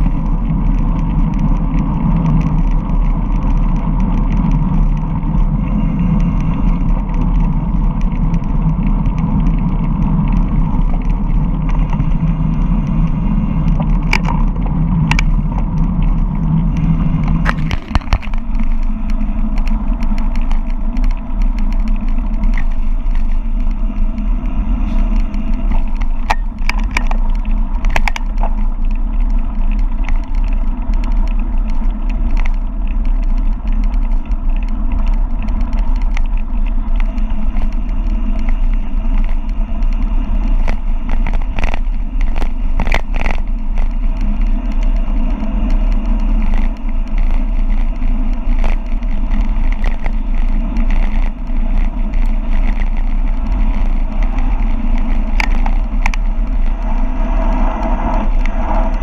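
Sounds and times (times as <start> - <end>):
bike clicks and rattles: 0.0 - 59.0
bike tyre noise: 0.0 - 59.0
wind rumble on microphone: 0.0 - 59.0.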